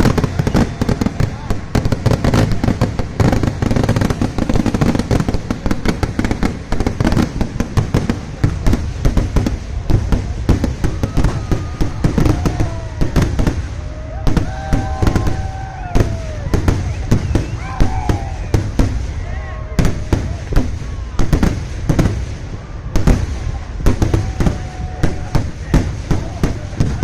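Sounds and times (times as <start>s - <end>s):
firecrackers banging and crackling: 0.0s - 27.0s.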